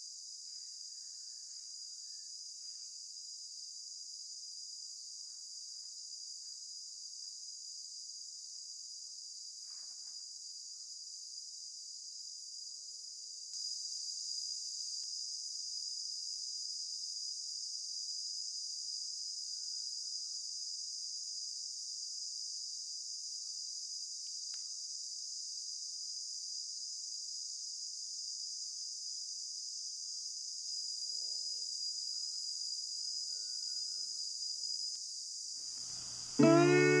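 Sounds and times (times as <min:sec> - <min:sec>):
shrill insect chorus: 0:00.0 - 0:37.0.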